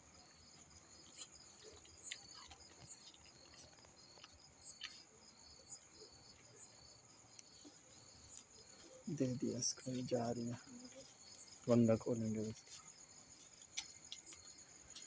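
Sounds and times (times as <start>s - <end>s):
crickets trilling: 0.0s - 15.0s
pulsed cricket chirps: 0.0s - 15.0s.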